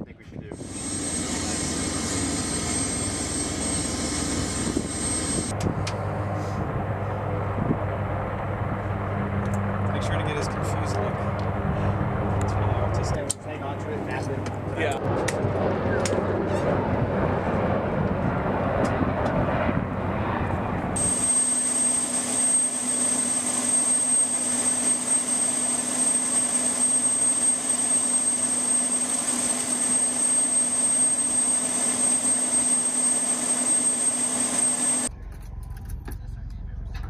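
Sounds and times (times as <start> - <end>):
turbine engine high whine: 0.0 - 37.0.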